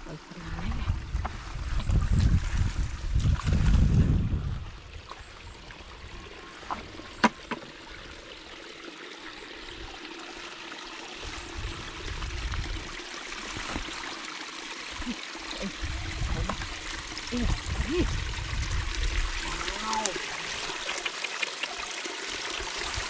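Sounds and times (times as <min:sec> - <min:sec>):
stream water over rocks: 0:00.0 - 0:23.0.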